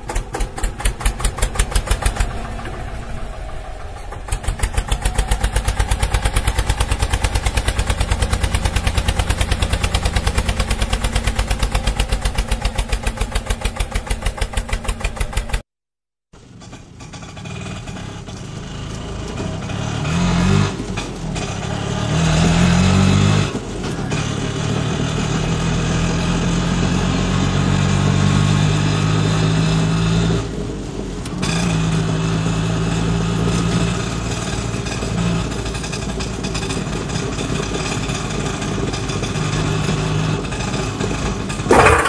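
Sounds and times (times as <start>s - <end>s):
small engine running and revving: 0.0s - 15.7s, 16.4s - 42.0s.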